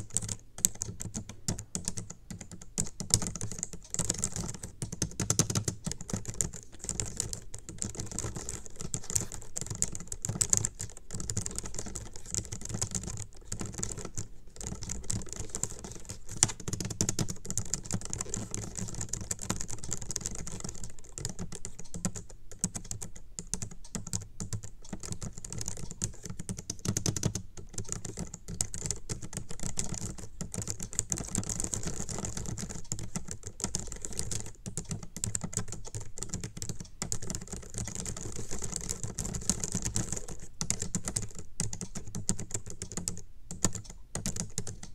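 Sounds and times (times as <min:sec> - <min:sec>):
rapid keyboard typing: 0:00.0 - 0:44.9.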